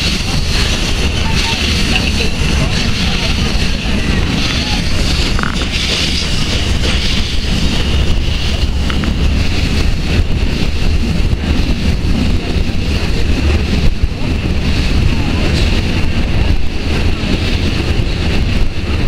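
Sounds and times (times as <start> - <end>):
steam train rumbling: 0.0 - 19.0
wind buffeting microphone: 0.0 - 19.0.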